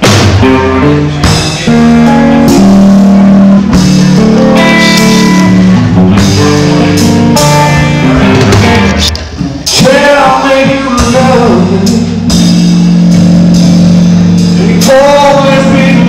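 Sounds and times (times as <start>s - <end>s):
drum kit: 0.0s - 16.0s
electric guitar lead lines: 0.0s - 16.0s.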